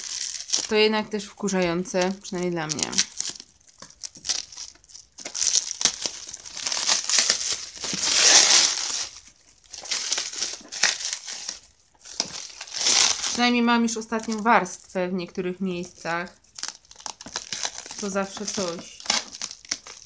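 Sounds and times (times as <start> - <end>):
tape tearing: 0.0 - 0.8, 1.5 - 14.6, 16.0 - 20.0
plastic wrapping crinkling: 0.0 - 20.0.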